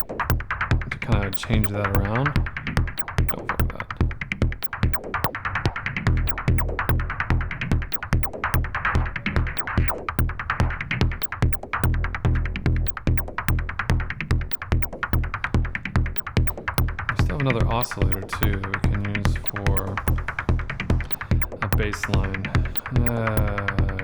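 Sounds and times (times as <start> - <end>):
kick drum: 0.0 - 24.0
sharp synthesized ticks: 0.0 - 24.0.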